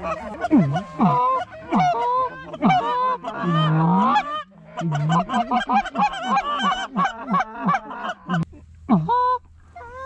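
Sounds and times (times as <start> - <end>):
geese honking and clucking: 0.0 - 10.0
goose long low moaning call: 0.0 - 10.0.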